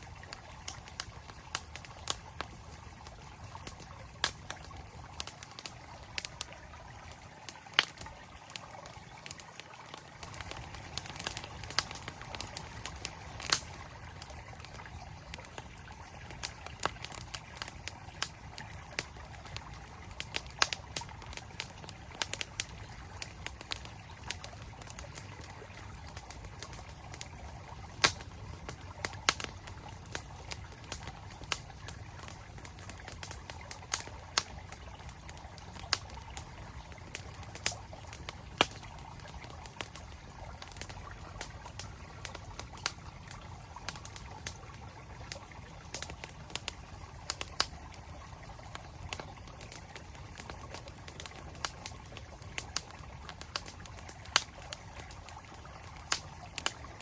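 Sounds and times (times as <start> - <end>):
campfire crackling and popping: 0.0 - 57.0
mountain stream flowing: 0.0 - 57.0.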